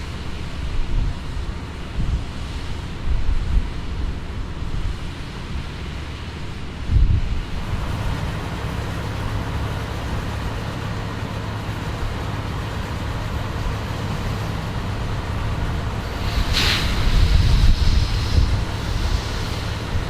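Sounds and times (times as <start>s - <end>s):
diesel farm machinery running: 0.0s - 20.0s.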